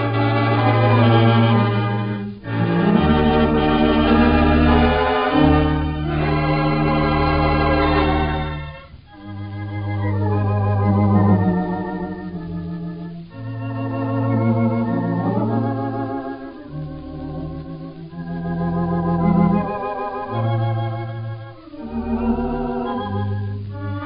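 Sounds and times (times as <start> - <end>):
theatre pipe organ playing chords: 0.0 - 24.0.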